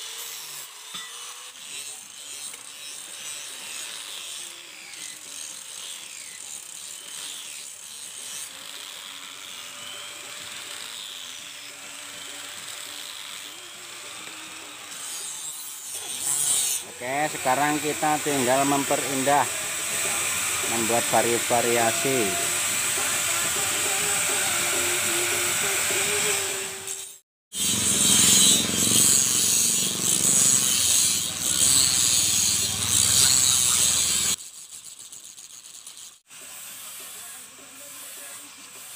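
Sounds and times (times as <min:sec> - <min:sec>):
tool scraping a blade: 0:00.0 - 0:38.9.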